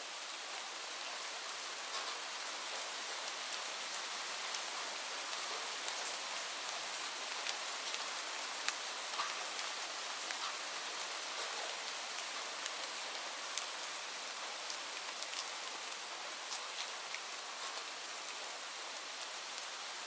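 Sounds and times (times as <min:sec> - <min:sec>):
rain falling on leaves: 0:00.0 - 0:20.0
raindrops tapping on foliage: 0:01.8 - 0:20.0.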